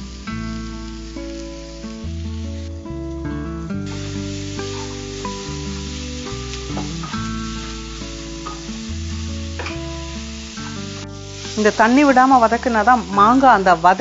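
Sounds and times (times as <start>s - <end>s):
background music with held notes: 0.0s - 14.0s
food sizzling in frying pan: 0.0s - 14.0s.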